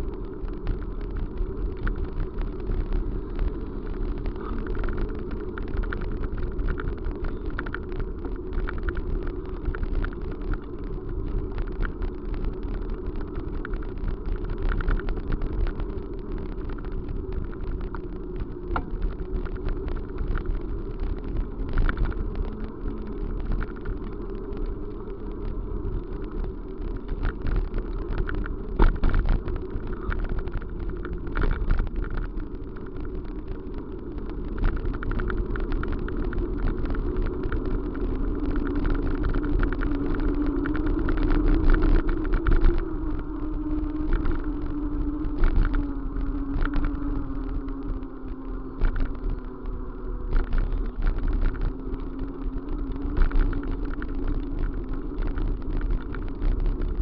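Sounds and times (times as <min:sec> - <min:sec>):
moving vehicle rumble: 0:00.0 - 0:57.0.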